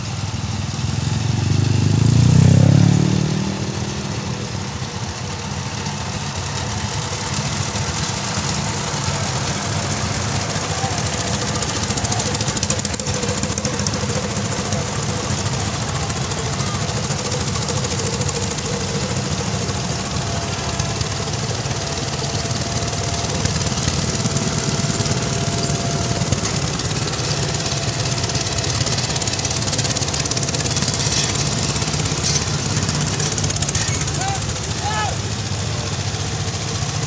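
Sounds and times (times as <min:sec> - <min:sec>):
hand tractor engines chugging: 0:00.0 - 0:37.0.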